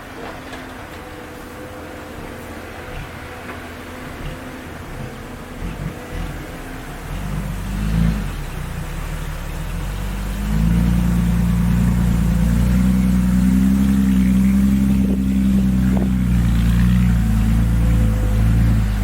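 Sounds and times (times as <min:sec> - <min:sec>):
heavy diesel engine under load: 0:00.0 - 0:19.0.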